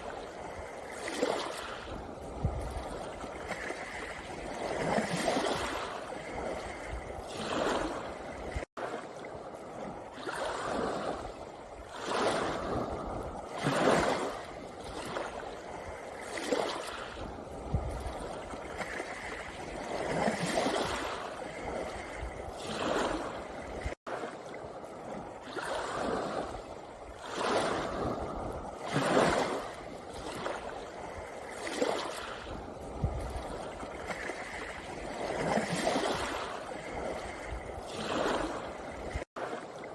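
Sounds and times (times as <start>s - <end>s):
sea waves on a pebble beach: 0.0s - 39.9s.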